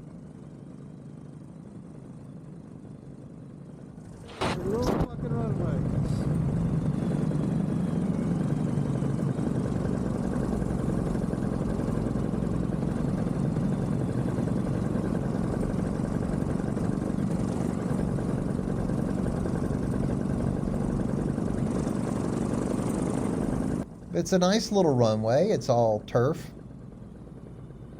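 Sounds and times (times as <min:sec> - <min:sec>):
paramotor engine droning: 0:00.0 - 0:27.9.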